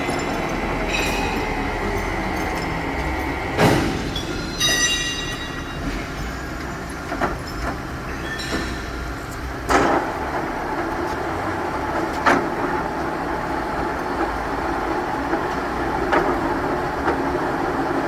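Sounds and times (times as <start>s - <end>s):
lathe gear whir: 0.0s - 18.0s.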